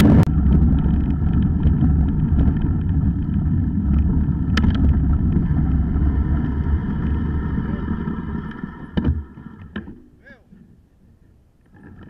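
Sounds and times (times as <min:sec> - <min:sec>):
tyres rumbling on gravel: 0:00.0 - 0:10.0.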